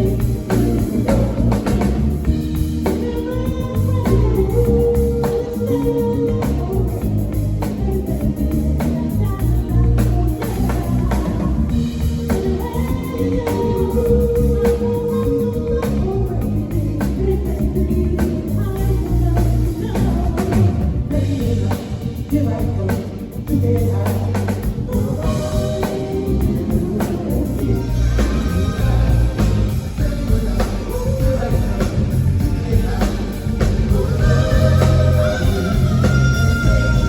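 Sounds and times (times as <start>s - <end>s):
lead vocal singing: 0.0s - 37.0s
soul band playing: 0.0s - 37.0s.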